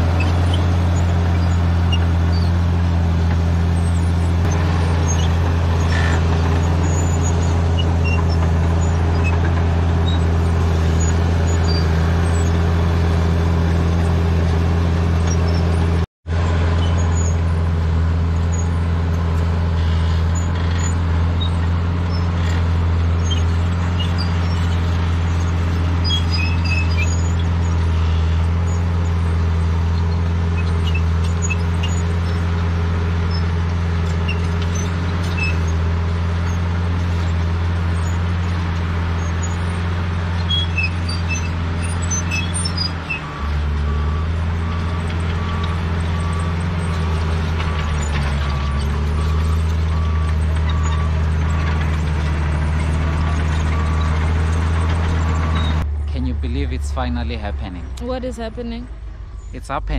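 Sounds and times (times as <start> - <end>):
bulldozer diesel engine humming: 0.0 - 59.9.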